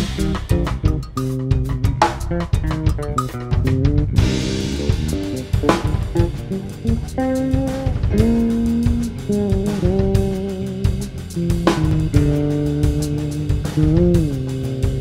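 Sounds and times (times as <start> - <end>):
electric bass played fingerstyle: 0.0 - 15.0.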